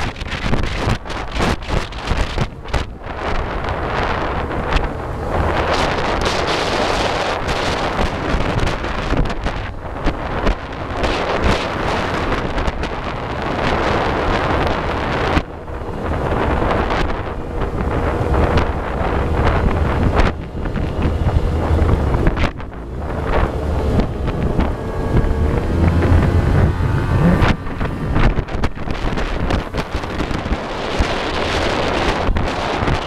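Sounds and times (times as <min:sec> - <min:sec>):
boat engine running: 0:00.0 - 0:33.0
wind buffeting microphone: 0:00.0 - 0:33.0.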